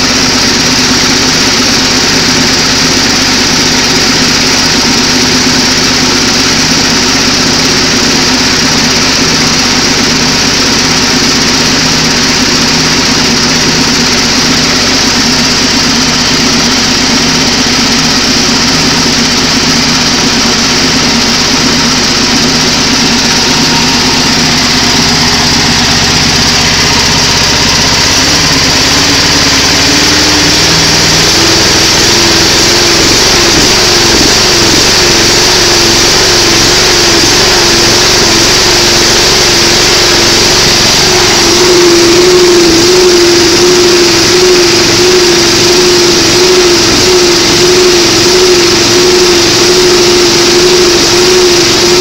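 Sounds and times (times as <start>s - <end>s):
generator whine: 0.0s - 52.0s
small engine running: 0.0s - 52.0s.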